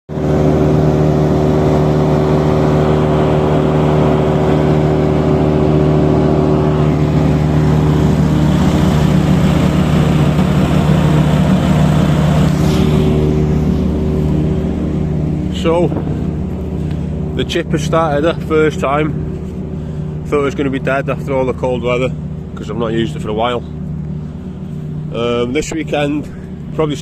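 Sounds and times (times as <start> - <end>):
wood chipper engine running: 0.1 - 27.0.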